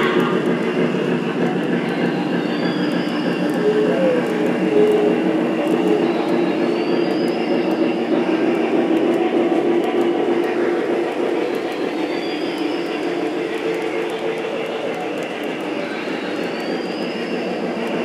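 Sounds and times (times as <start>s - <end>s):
model train wheels and motor: 0.0s - 18.0s
wheels ticking on rails: 0.0s - 18.0s.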